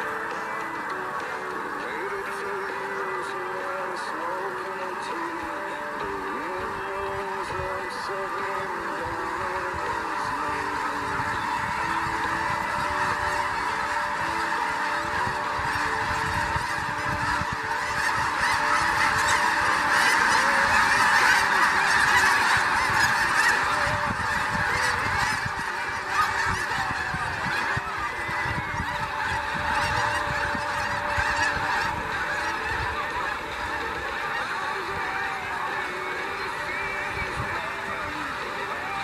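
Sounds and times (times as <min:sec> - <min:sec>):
flock of geese honking: 0:00.0 - 0:39.0.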